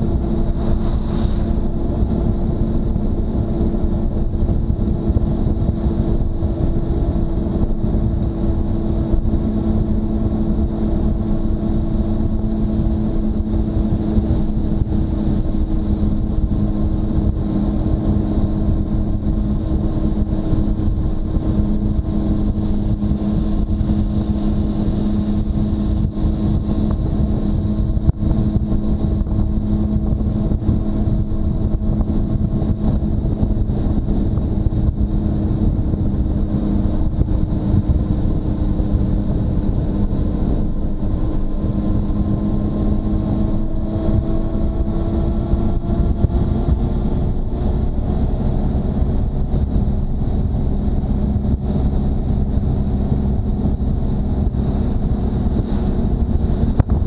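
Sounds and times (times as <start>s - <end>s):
motorcycle engine running steadily: 0.0s - 57.0s
road and wind rumble: 0.0s - 57.0s.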